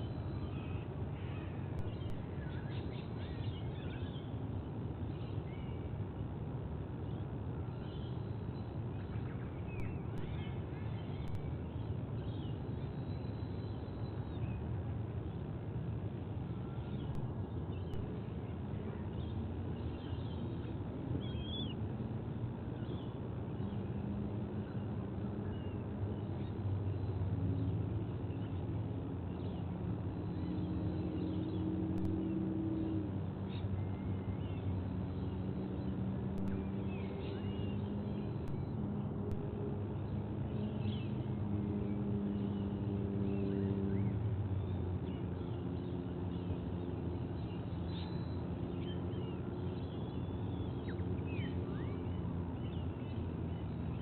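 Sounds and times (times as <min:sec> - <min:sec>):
low droning engine hum: 0:00.0 - 0:54.0
low outdoor rumble: 0:00.0 - 0:54.0.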